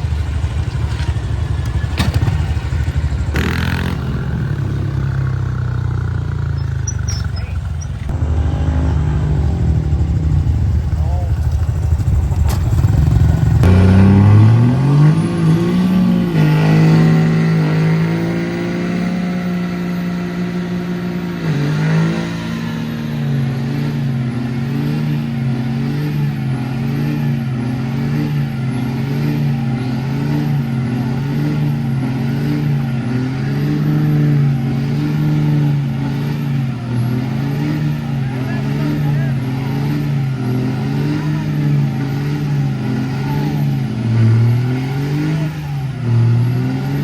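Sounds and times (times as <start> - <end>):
large engine revving: 0.0 - 47.0.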